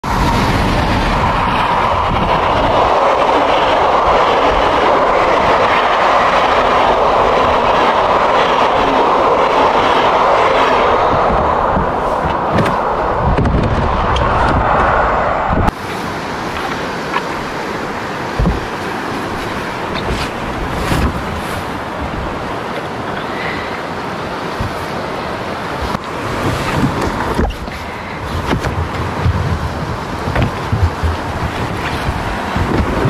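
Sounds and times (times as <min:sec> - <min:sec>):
passenger train passing: 0:00.0 - 0:33.0
river rapids rushing: 0:00.0 - 0:33.0.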